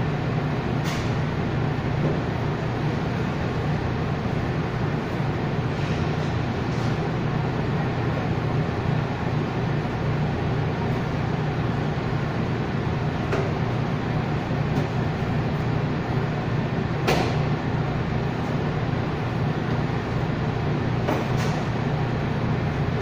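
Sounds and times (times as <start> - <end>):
machinery and ventilation hum: 0.0 - 23.0.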